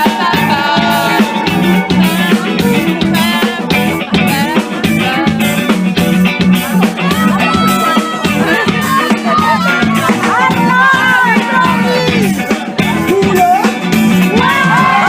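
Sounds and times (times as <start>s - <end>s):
drum kit beating: 0.0s - 15.0s
electric guitar: 0.0s - 15.0s
live rock band playing: 0.0s - 15.0s.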